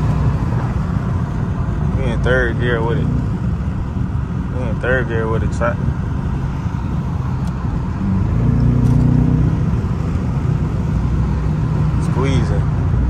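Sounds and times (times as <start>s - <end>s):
car engine droning from inside cabin: 0.0s - 13.0s.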